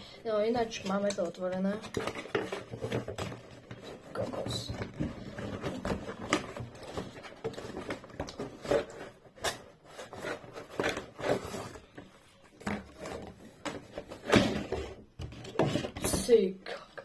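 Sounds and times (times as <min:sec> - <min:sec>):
plastic parts clicking and rustling: 0:00.5 - 0:16.4.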